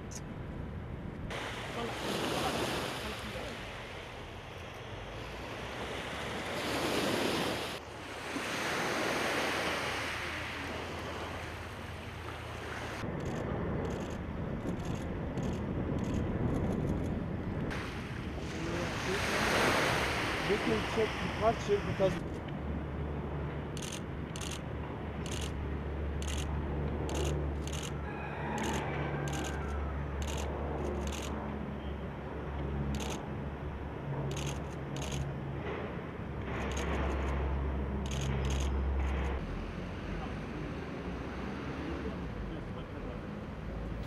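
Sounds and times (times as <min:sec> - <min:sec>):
rushing wind-like noise: 0:00.0 - 0:40.0
distant plane engines droning: 0:00.0 - 0:44.0.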